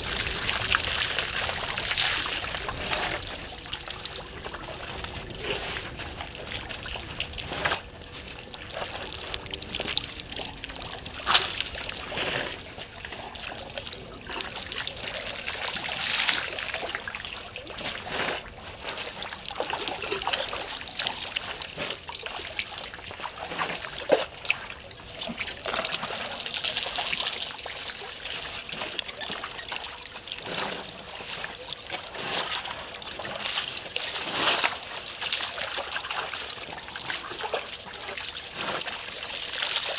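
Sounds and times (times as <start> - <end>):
elephants splashing in water: 0.0 - 39.9
water trickling and splashing: 0.0 - 39.9.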